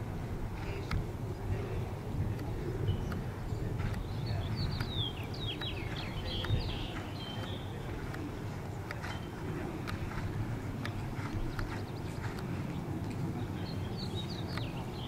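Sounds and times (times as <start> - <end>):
horse hooves on soft footing: 0.2 - 15.0.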